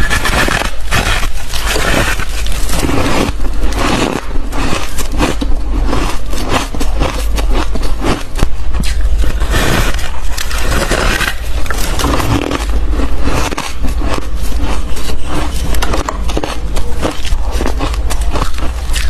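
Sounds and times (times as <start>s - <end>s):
biting and chewing ice: 0.0s - 19.0s.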